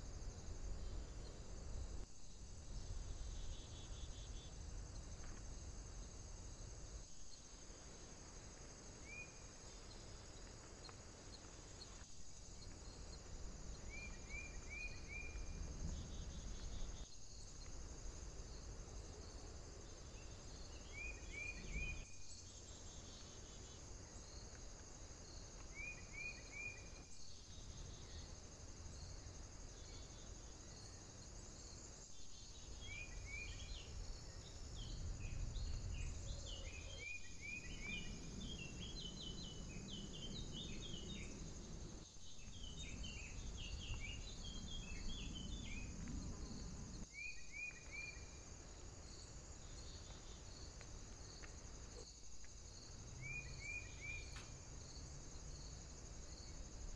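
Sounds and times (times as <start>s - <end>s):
high-pitched insect trill: 0.0s - 56.9s.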